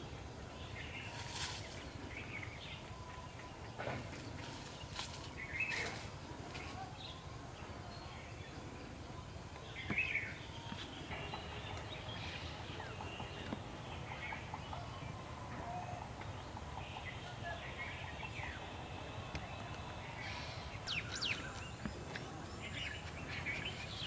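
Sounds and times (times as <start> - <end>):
birds chirping: 0.0 - 24.0
low outdoor rumble: 0.0 - 24.0.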